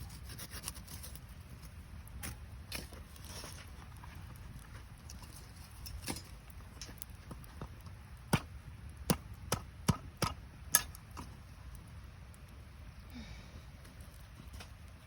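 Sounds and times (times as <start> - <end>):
low flame noise: 0.0 - 15.0
campfire crackling and popping: 0.1 - 15.0.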